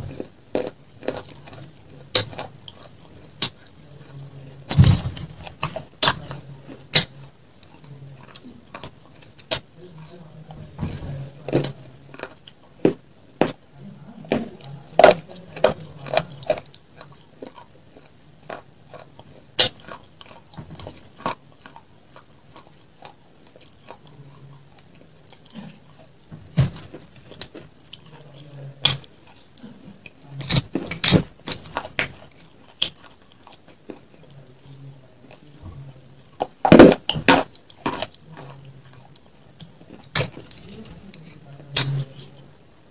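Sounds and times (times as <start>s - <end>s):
eating and chewing: 0.0s - 42.9s.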